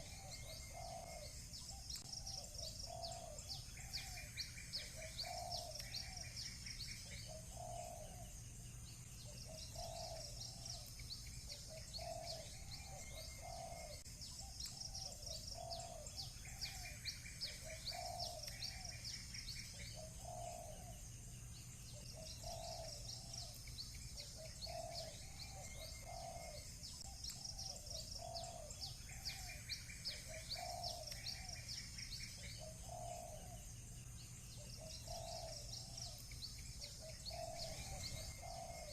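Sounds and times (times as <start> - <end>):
doves cooing: 0.0 - 8.4, 9.2 - 21.1, 21.9 - 33.8, 34.5 - 38.9
small birds chirping: 0.0 - 38.9
steady low hum: 0.0 - 38.9.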